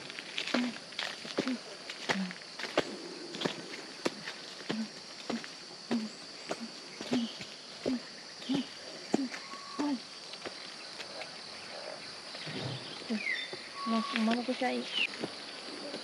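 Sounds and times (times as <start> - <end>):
footsteps walking uphill: 0.0 - 11.6, 13.5 - 16.0
insects droning: 0.0 - 16.0.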